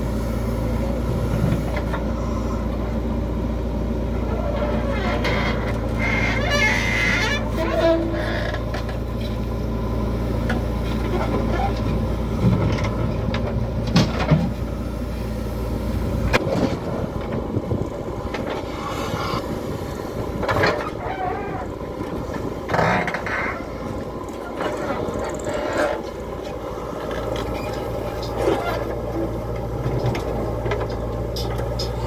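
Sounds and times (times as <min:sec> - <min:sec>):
backhoe digging and dumping soil: 0:00.0 - 0:32.0
diesel engines running: 0:00.0 - 0:32.0.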